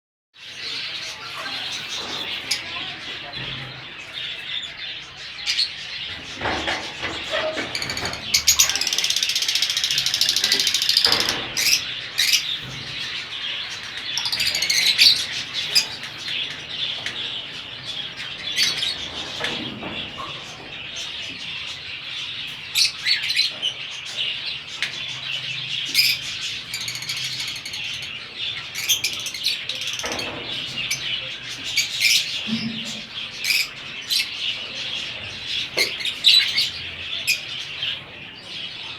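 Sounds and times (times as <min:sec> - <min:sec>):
lovebirds chirping and chattering: 0:00.4 - 0:38.9.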